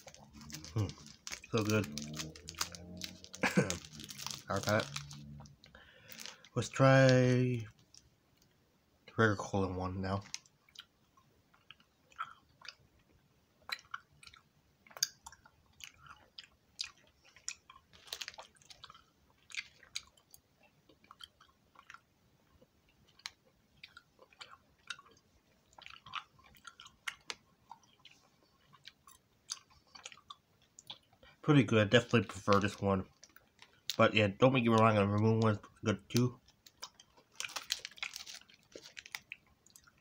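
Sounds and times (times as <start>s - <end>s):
person chewing candy: 0.0s - 7.0s, 10.1s - 31.4s, 32.1s - 40.0s.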